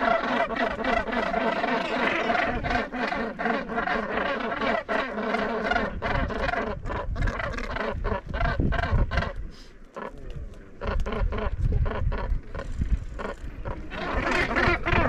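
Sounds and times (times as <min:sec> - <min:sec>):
seabirds rasping calls: 0:00.0 - 0:15.0.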